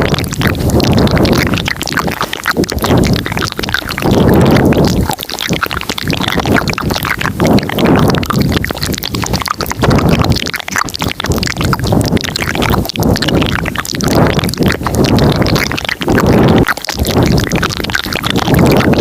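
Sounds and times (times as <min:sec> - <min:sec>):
wet mouth clicks: 0:00.0 - 0:19.0.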